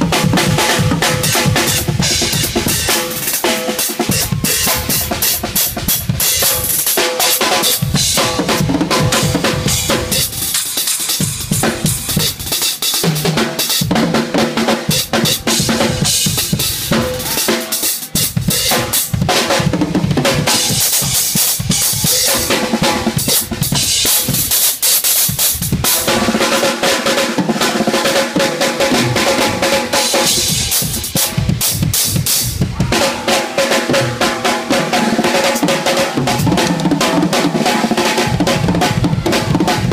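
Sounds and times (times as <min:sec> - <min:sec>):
drum kit solo: 0:00.0 - 0:39.9.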